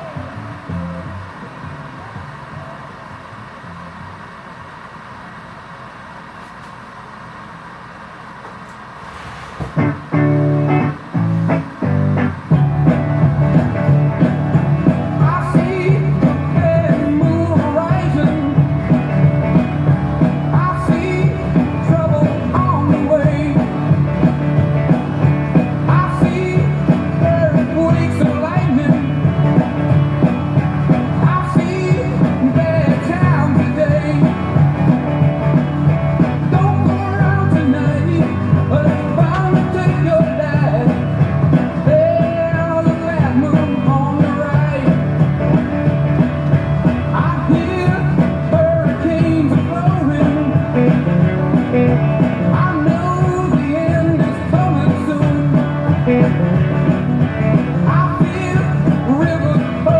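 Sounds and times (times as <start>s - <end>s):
rock music: 0.0s - 4.1s, 9.8s - 59.9s.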